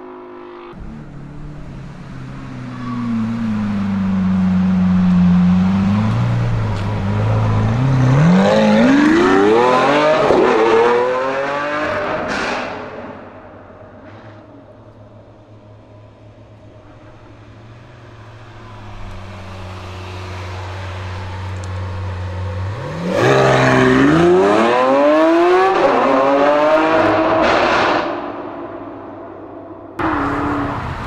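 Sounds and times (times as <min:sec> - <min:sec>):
sports car engine accelerating: 0:00.0 - 0:13.2, 0:14.5 - 0:31.0.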